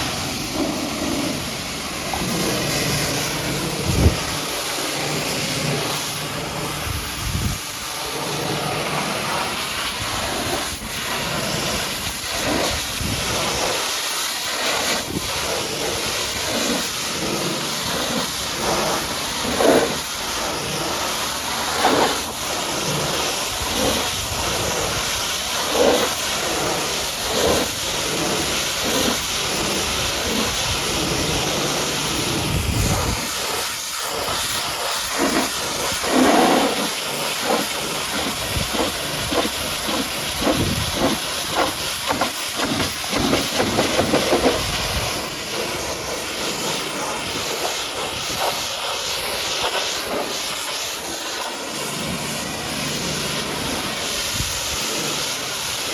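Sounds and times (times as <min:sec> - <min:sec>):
pressure washer spraying water: 0:00.0 - 0:55.9.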